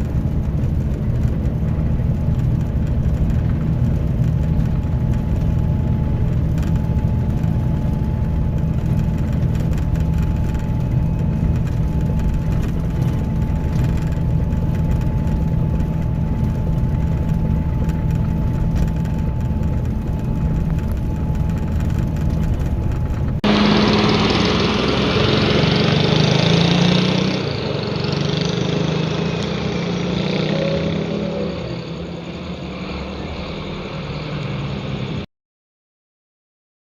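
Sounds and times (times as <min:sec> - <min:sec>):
thin steady whine: 0:00.0 - 0:26.3, 0:27.4 - 0:35.3
diesel engine droning: 0:00.0 - 0:35.3.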